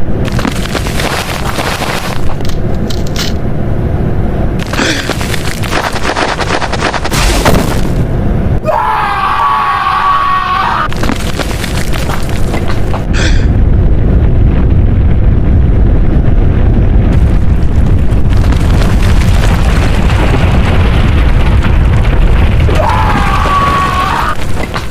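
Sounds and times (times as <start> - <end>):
explosion rumbling: 0.0 - 8.6, 10.8 - 24.9.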